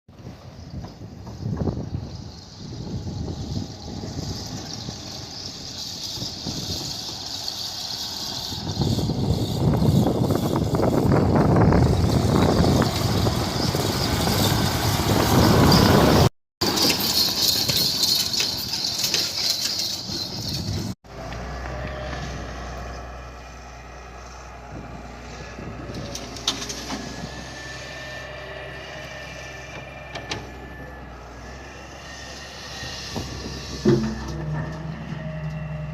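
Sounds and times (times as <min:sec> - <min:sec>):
diesel machinery rumbling: 0:00.1 - 0:35.9.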